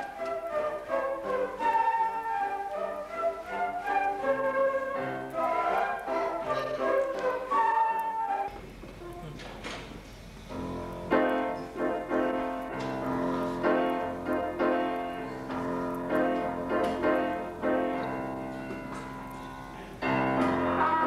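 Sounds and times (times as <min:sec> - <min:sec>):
grand piano playing slow piece: 0:00.0 - 0:09.4, 0:10.4 - 0:21.0.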